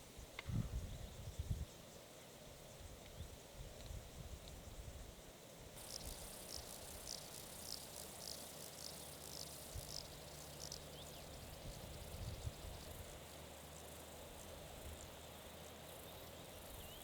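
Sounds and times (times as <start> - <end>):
faint outdoor hiss: 0.0 - 17.0
insect chirping: 0.0 - 17.0.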